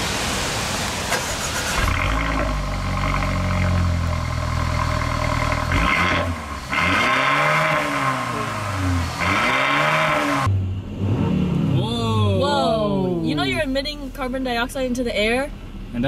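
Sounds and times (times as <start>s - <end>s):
car engine idling and revving: 0.0s - 16.0s
exhaust rush: 0.0s - 16.0s.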